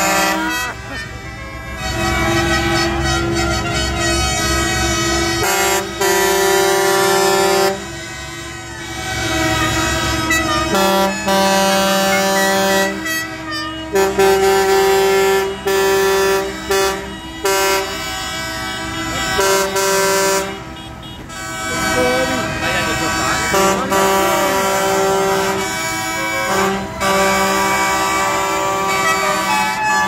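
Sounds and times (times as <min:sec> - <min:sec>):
tractor engines running: 0:00.0 - 0:30.0
tractor horns honking: 0:00.0 - 0:30.0.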